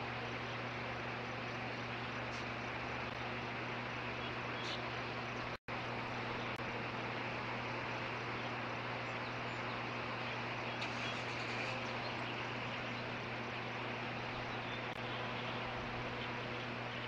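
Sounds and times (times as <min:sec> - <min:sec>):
low constant hum: 0:00.0 - 0:17.0.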